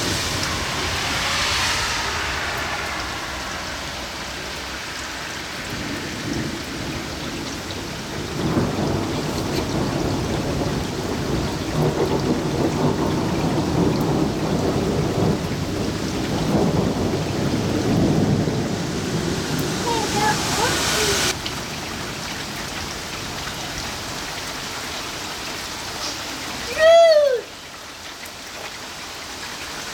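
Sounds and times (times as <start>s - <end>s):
rolling thunder: 0.0s - 25.6s
steady rain: 0.0s - 29.9s.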